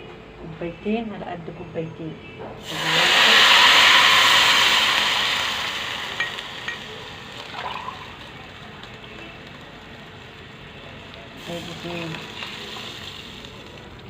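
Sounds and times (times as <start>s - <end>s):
water hissing in hot fat: 2.6s - 14.0s.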